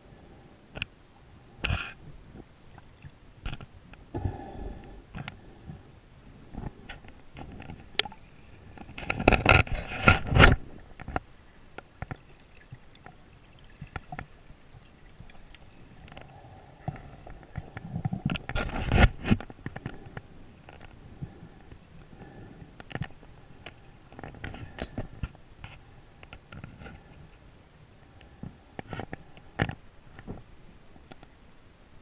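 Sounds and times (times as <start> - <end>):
underwater clicks and scraping: 1.6 - 27.5, 28.1 - 31.4.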